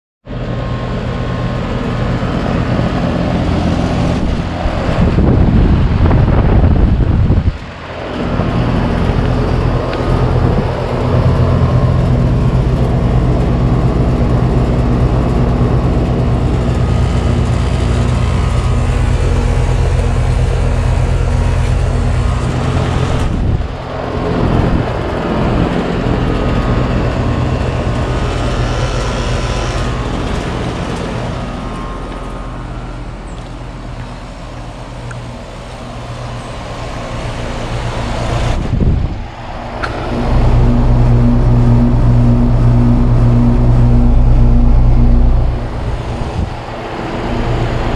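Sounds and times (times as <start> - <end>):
fan whoosh: 0.3 - 33.3, 35.2 - 47.9
compressor electrical hum: 0.3 - 47.9.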